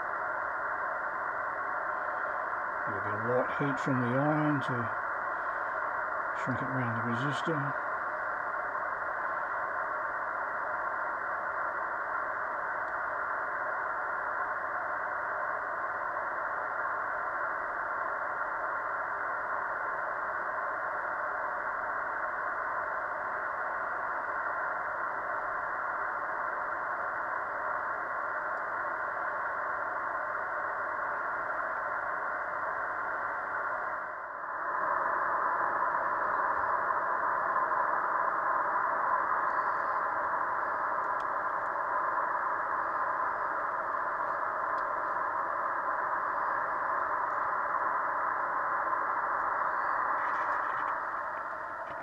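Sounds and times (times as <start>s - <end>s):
faint steady tones: 0.0s - 52.0s
radio receiver hiss: 0.0s - 52.0s.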